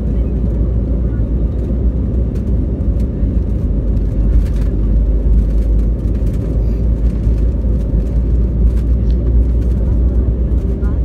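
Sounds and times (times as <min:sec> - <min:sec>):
jet airliner rolling on runway: 0:00.0 - 0:11.0.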